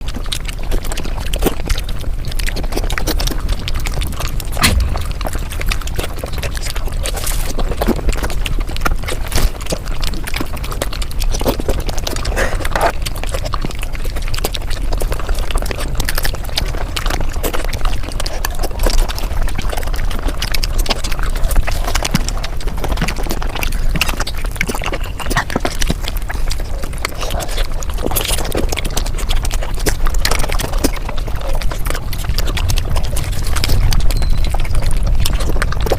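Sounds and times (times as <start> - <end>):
sped-up chewing clicks: 0.0 - 35.9.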